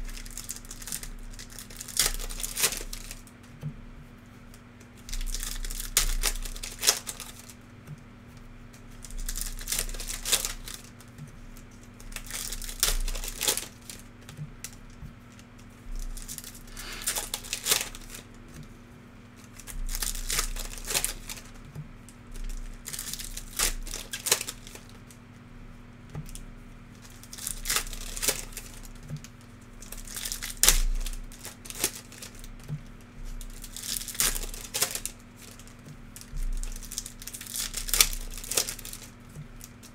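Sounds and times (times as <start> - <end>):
plastic wrappers crinkling and tearing: 0.0 - 3.6, 4.5 - 7.6, 8.7 - 18.7, 19.3 - 25.4, 26.2 - 39.9.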